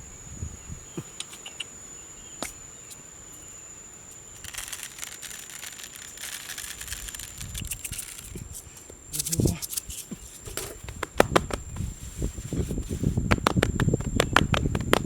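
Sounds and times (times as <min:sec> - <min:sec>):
cricket drone: 0:00.0 - 0:15.0
crackling rustle: 0:02.4 - 0:15.0.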